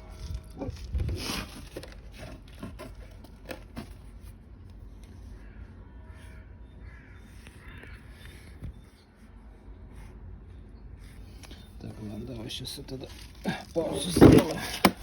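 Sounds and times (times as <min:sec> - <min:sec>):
rustling and scraping: 0:00.0 - 0:05.7, 0:06.3 - 0:15.0.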